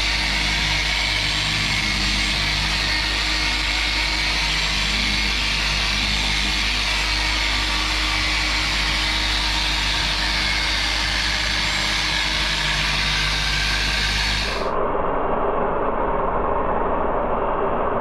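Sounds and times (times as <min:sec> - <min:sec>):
car polisher running: 0:00.0 - 0:14.7.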